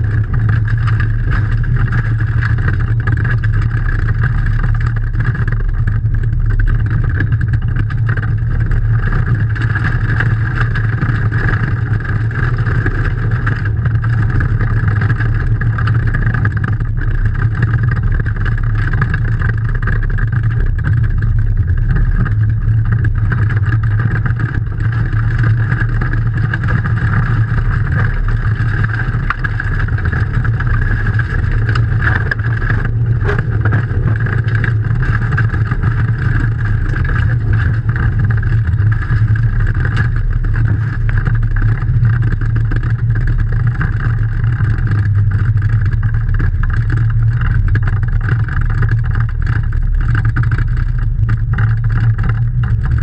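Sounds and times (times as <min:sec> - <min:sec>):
car engine running at speed: 0:00.0 - 0:53.0.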